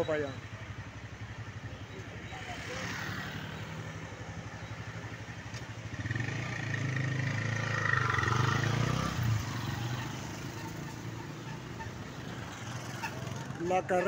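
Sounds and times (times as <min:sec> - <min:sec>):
motorcycle passing by: 0:01.6 - 0:14.0.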